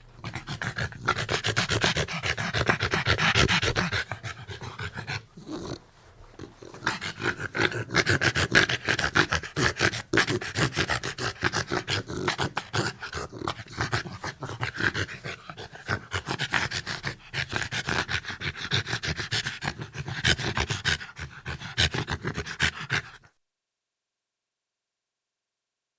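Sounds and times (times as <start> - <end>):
dog panting heavily: 0.2 - 5.4, 6.6 - 23.3.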